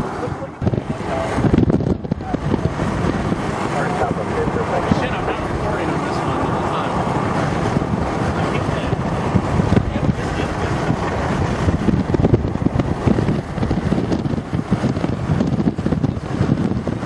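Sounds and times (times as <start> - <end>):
road and wind noise: 0.0 - 17.0
wind buffeting microphone: 0.0 - 17.0.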